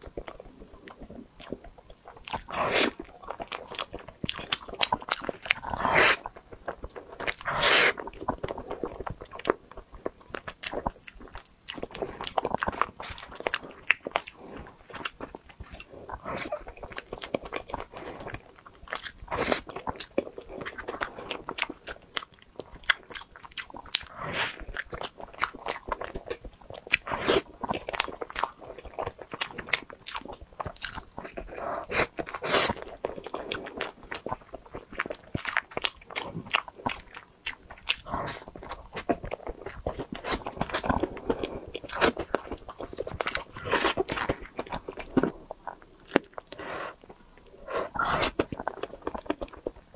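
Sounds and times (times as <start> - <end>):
person chewing: 0.0 - 49.9.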